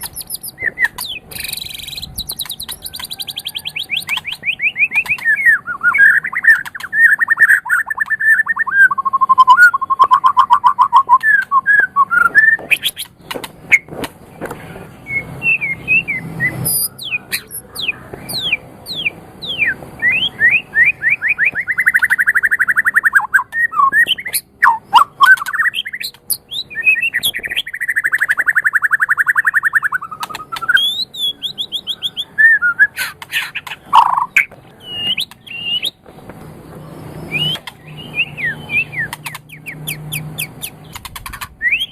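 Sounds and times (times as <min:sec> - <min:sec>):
songbird singing trills and whistles: 0:00.0 - 0:13.9, 0:15.0 - 0:36.0, 0:36.6 - 0:41.9.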